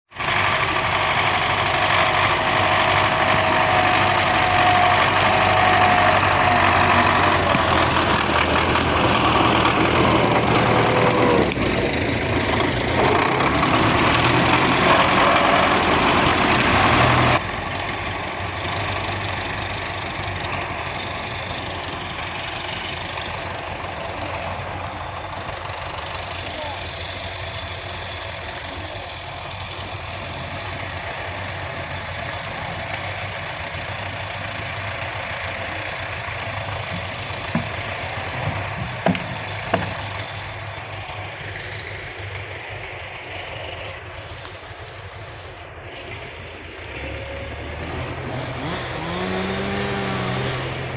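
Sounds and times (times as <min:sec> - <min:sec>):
tractor diesel engine running: 0:00.1 - 0:50.9.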